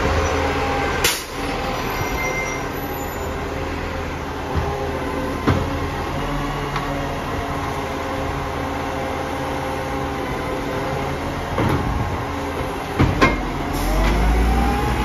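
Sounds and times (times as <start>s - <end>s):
garbage truck engine and hydraulics: 0.0s - 15.0s.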